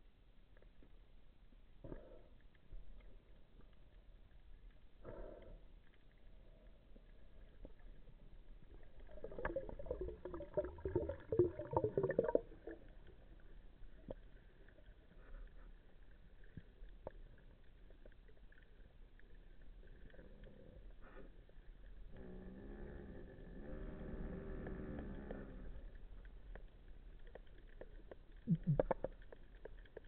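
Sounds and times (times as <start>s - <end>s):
underwater bubbling and gurgling: 0.1s - 30.0s.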